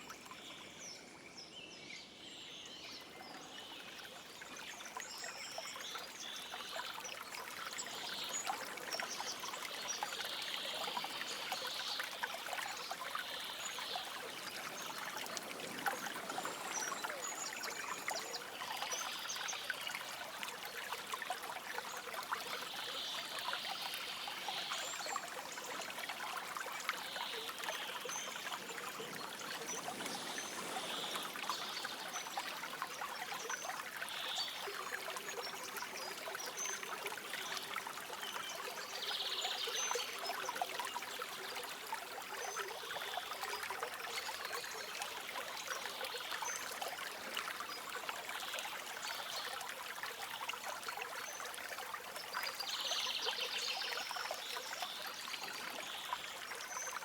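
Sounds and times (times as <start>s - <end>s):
stream flowing and splashing: 1.9s - 57.0s.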